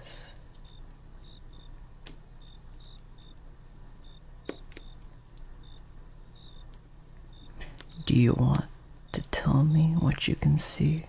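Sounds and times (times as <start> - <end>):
crickets chirping: 0.0 - 11.0
firewood crackling and popping: 0.0 - 11.0
low steady rumble: 0.0 - 11.0.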